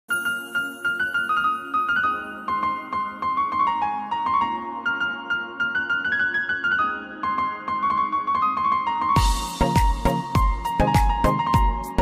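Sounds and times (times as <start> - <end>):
tinkling keyboard melody: 0.1 - 12.0.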